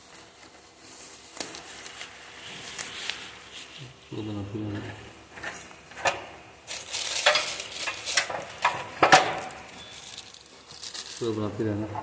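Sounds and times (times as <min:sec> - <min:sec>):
plastic sheeting crinkling: 0:00.0 - 0:04.8, 0:06.6 - 0:11.9.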